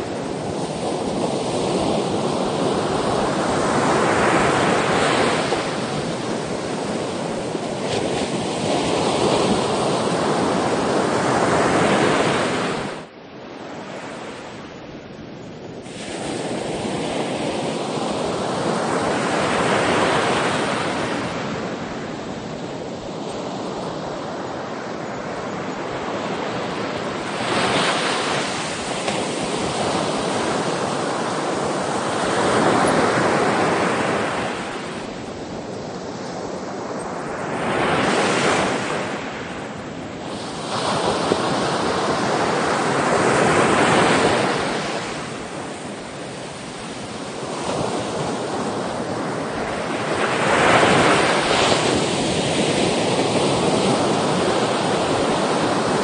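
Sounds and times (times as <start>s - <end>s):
sea waves breaking: 0.0s - 13.1s, 15.8s - 56.0s.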